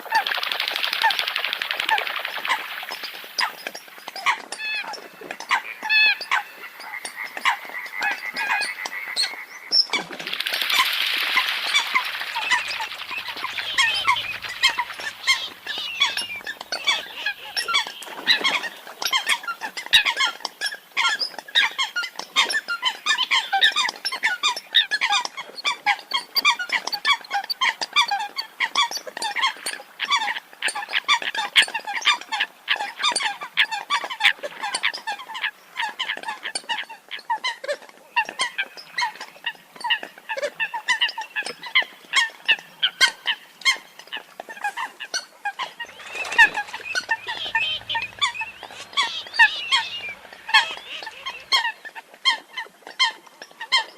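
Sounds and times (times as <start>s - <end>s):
coots calling: 0.0s - 25.2s, 31.9s - 52.4s.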